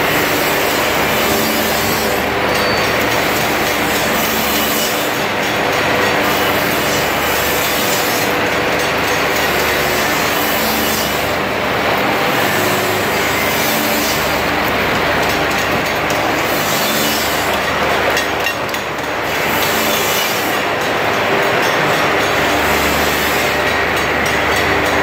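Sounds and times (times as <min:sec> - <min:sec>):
chain conveyors and motors running: 0:00.0 - 0:25.0.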